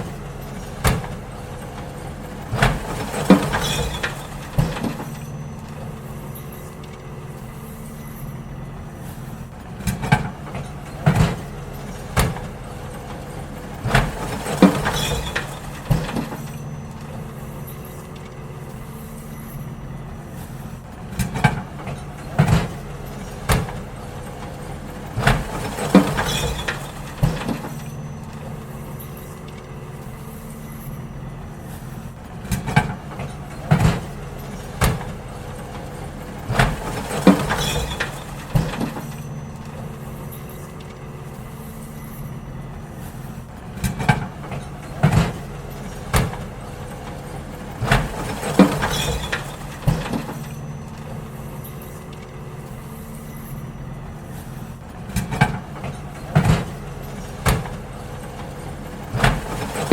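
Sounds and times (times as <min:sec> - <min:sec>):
bins clanking and banging: 0:00.0 - 0:59.9
garbage truck engine running: 0:00.0 - 0:59.9.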